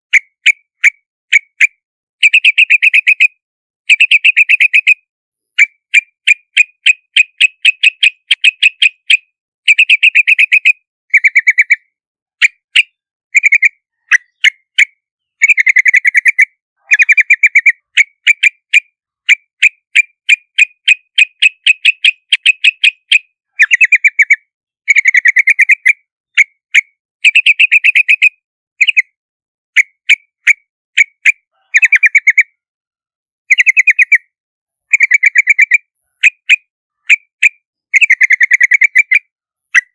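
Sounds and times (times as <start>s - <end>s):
bird calling with chirpy notes: 0.0s - 32.6s, 33.4s - 39.9s.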